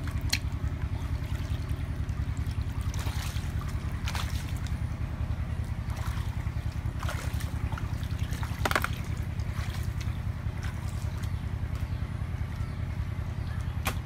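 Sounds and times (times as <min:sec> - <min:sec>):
water splashes: 0:00.0 - 0:12.0
bare feet wading through water: 0:00.0 - 0:12.2
steady low rumble: 0:00.0 - 0:14.0.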